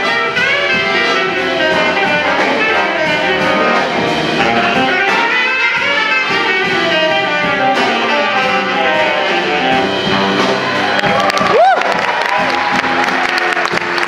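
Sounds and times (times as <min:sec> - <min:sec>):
jazz big band playing: 0:00.0 - 0:14.0.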